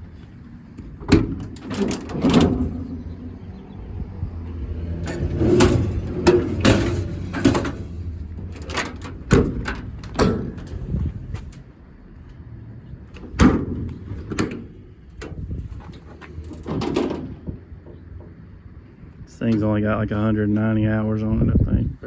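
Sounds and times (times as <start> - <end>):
low rumble: 0.0 - 19.3
metal compartment doors clanking: 0.0 - 20.2.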